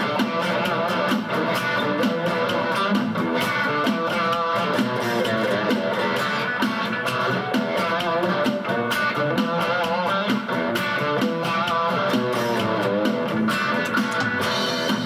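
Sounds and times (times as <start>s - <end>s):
backing track with steady beat: 0.0s - 15.0s
electric guitar melody: 0.0s - 15.0s.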